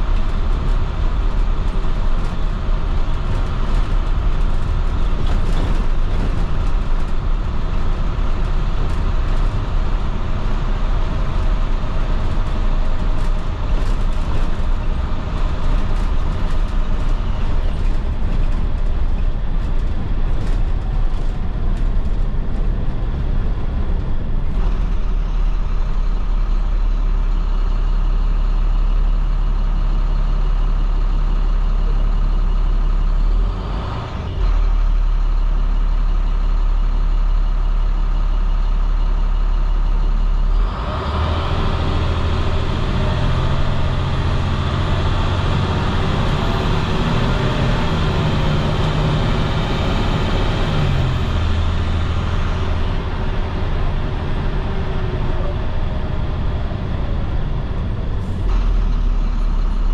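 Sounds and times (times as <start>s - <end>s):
bus diesel engine running: 0.0s - 59.9s
road noise: 0.0s - 59.9s.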